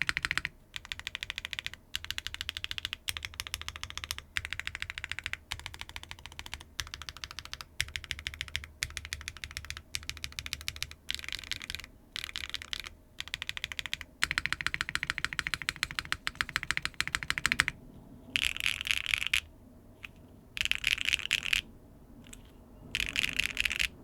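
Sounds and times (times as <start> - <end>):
mechanical keyboard typing: 0.0 - 17.8, 18.4 - 24.0.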